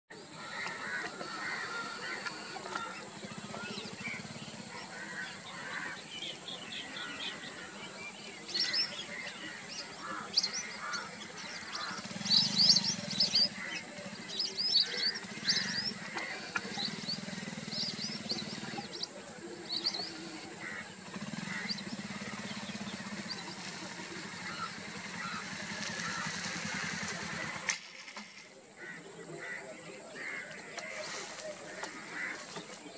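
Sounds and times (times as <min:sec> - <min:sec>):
wild birds calling: 0:00.1 - 0:32.9.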